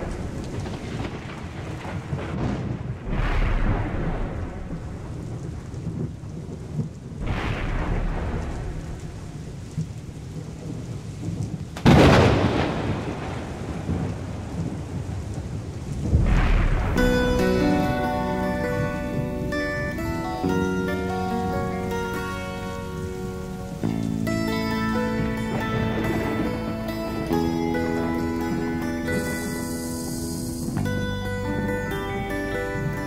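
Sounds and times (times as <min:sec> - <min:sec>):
steady rain: 0:00.0 - 0:33.0
thunder crack: 0:00.0 - 0:33.0
thunder rumbling: 0:00.0 - 0:33.0.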